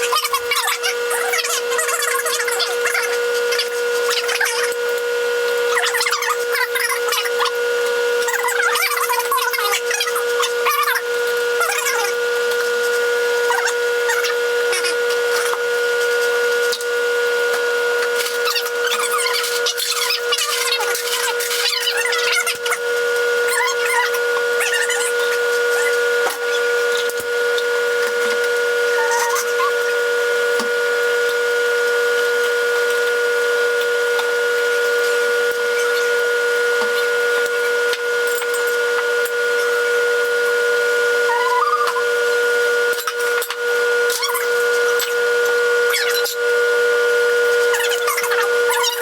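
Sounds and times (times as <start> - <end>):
microwave oven humming: 0.0 - 49.0.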